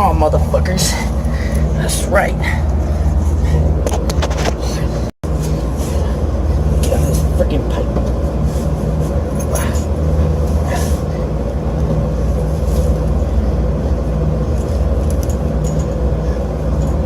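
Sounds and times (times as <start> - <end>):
hvac unit humming: 0.0 - 17.0.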